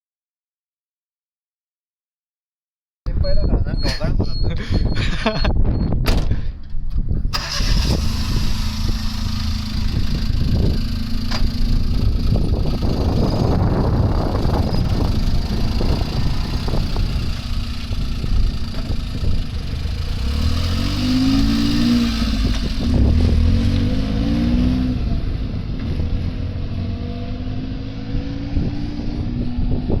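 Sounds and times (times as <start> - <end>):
car engine rumbling: 3.1 - 30.0.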